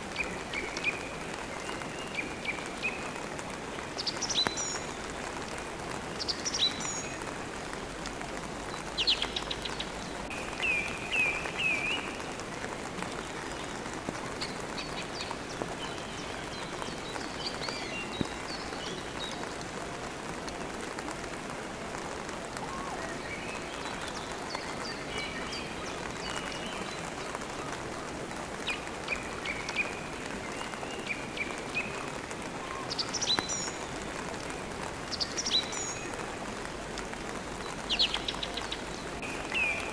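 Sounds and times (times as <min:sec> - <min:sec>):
songbirds chirping: 0:00.0 - 0:39.9
steady rain falling: 0:00.0 - 0:39.9.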